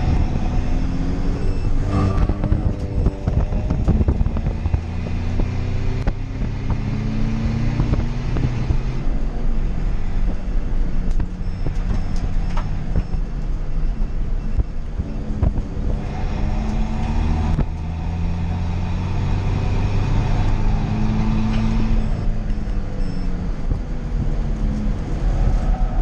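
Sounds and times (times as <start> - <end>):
diesel engine pulling hard: 0.0 - 26.0.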